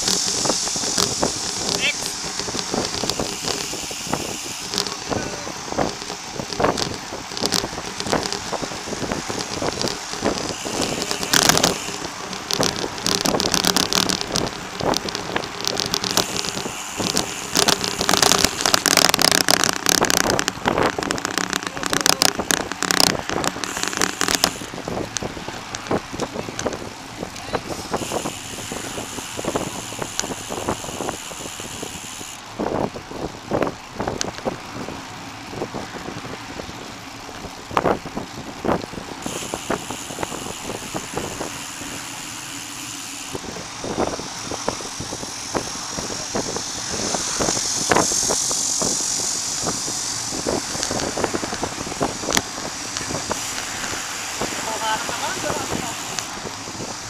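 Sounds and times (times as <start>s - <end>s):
bicycle tyre noise: 0.0s - 57.0s
bike rattling over bumps: 0.0s - 57.0s
wind noise: 0.0s - 57.0s.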